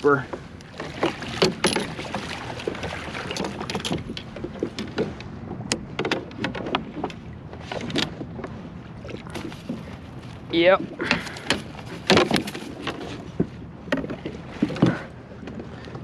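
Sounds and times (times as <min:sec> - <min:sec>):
water sloshing around kayak: 0:00.0 - 0:16.0
net handle knocking on hull: 0:00.3 - 0:10.0, 0:10.8 - 0:15.1.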